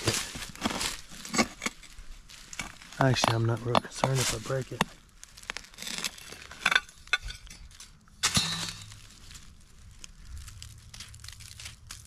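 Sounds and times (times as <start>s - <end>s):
digging scraping in soil: 0.0s - 12.0s.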